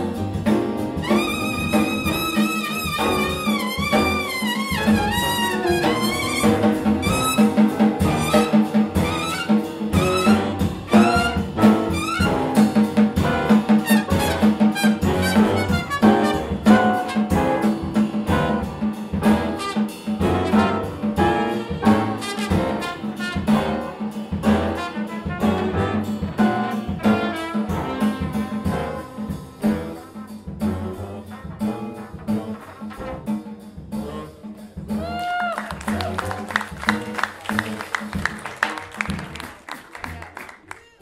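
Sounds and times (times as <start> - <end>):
trumpet solo: 0.0 - 38.1
drum strokes: 0.0 - 40.2
big band jazz: 0.0 - 40.6.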